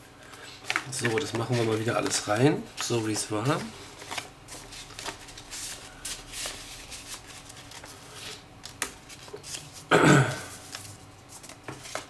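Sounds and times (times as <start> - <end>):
paper and card rustling: 0.3 - 12.0.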